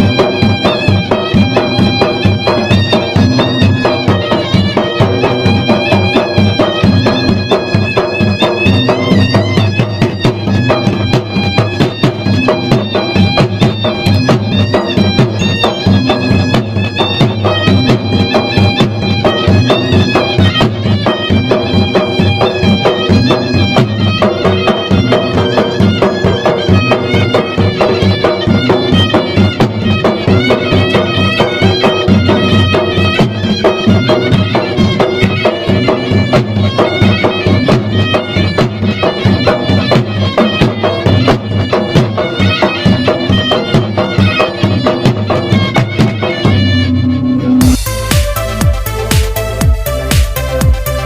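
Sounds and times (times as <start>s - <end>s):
drums in rapid strokes: 0.0s - 51.0s
wind instrument melody: 0.0s - 51.0s.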